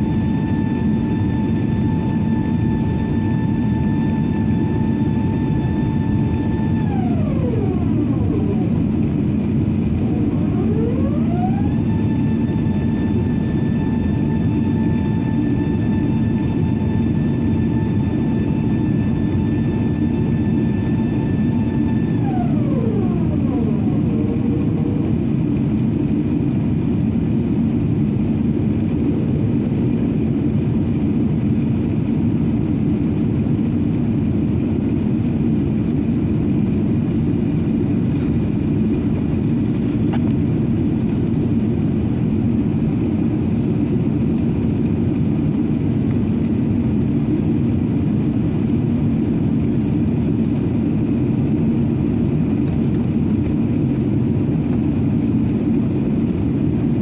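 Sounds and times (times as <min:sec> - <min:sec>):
airplane engines and rushing air: 0:00.0 - 0:57.0.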